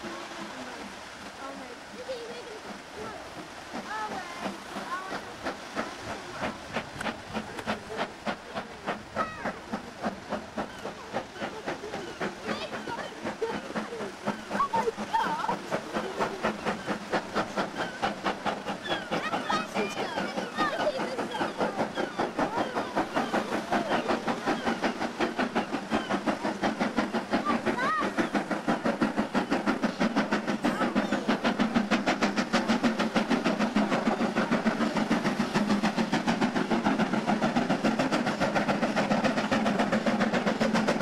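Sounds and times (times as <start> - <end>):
steam hissing: 0.0 - 41.0
steam locomotive exhaust beats: 0.0 - 41.0.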